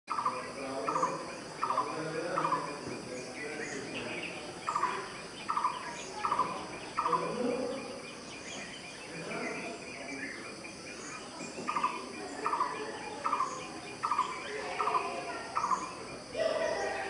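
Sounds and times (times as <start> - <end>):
bird trilling: 0.1 - 17.0.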